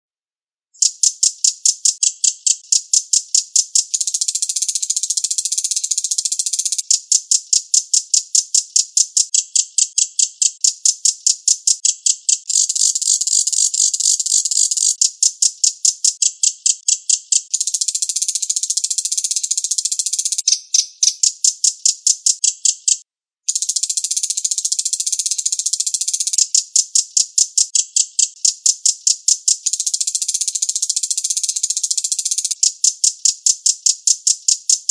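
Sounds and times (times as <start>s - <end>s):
bird rattling chatter: 0.8s - 22.9s, 23.5s - 34.9s.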